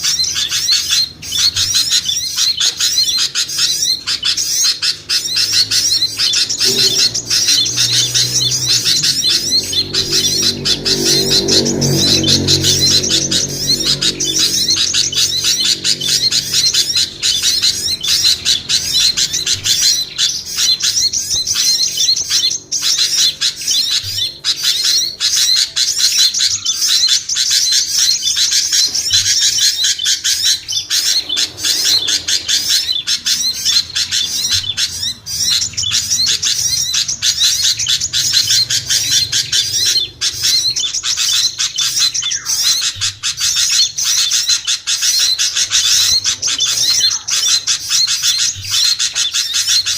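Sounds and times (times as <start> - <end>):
small songbirds chattering: 0.0 - 49.9.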